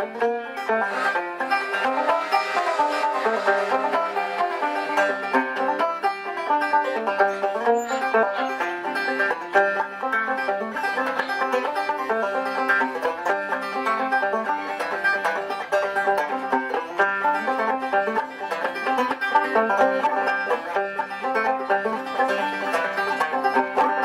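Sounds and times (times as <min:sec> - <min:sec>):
banjo plucked notes and chords: 0:00.0 - 0:24.0.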